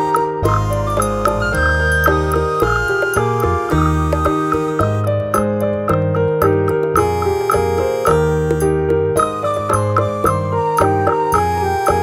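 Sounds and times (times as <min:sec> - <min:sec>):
electric piano melody: 0:00.0 - 0:12.0
steady bass line: 0:00.4 - 0:10.6.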